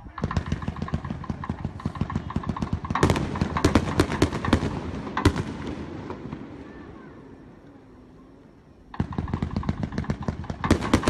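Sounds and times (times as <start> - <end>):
fireworks popping and banging: 0.0 - 11.0.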